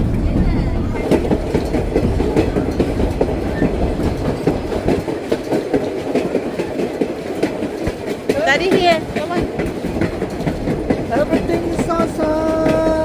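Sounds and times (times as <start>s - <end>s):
train car rumbling on track: 0.0s - 13.0s
wheels clacking and rattling: 0.0s - 13.0s.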